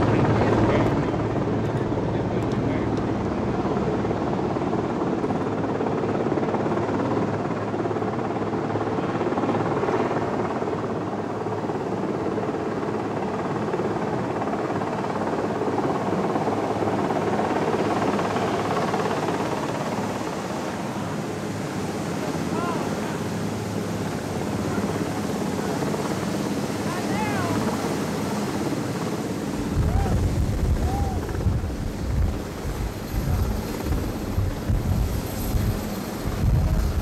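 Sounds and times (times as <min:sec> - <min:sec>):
helicopter turbines and rotor: 0:00.0 - 0:37.0.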